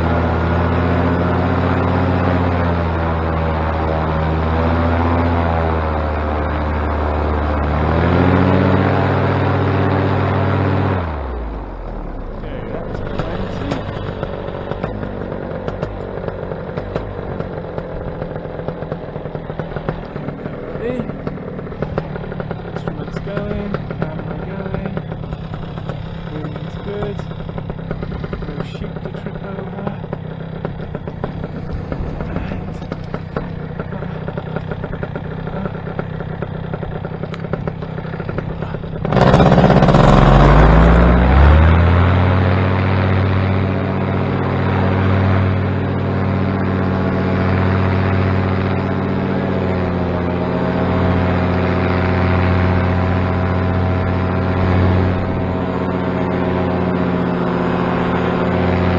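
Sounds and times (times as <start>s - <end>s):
paramotor engine and propeller drone: 0.0s - 58.9s.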